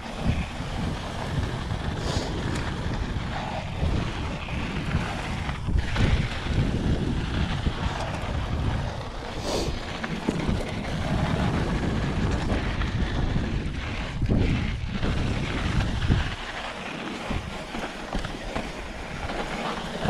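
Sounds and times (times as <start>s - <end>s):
bike tyres on dirt and stones: 0.0s - 20.0s
wind buffeting microphone: 0.0s - 20.0s.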